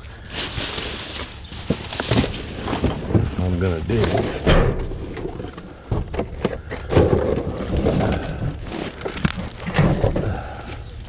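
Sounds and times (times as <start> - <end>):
junk knocking and clattering: 1.5 - 10.6.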